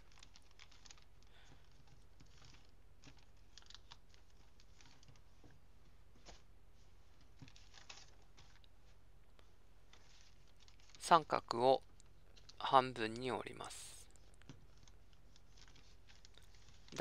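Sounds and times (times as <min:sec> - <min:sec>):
paper rustling and crackling: 0:00.0 - 0:11.0, 0:14.2 - 0:17.0.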